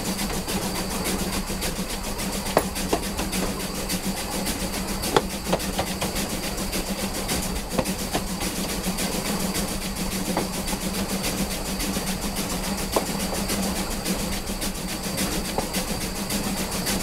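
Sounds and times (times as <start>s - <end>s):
steady low hum: 0.0s - 17.0s
train mechanical clatter: 0.0s - 17.0s.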